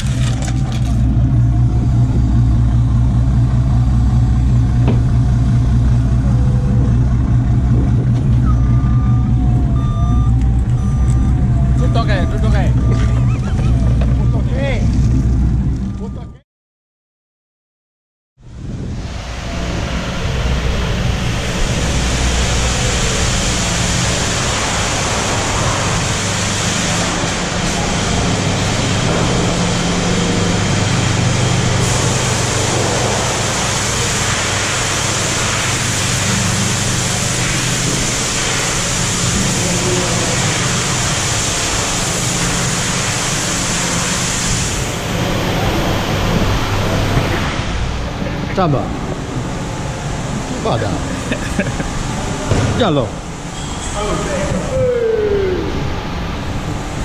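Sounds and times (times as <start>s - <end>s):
machines low hum: 0.0s - 16.4s, 18.4s - 57.0s.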